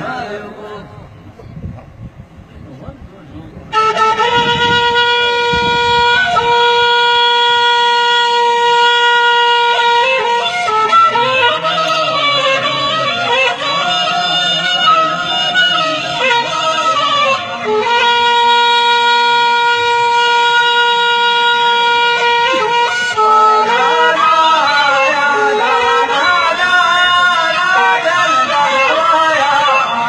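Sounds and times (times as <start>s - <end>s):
person chanting melody: 3.8s - 30.0s.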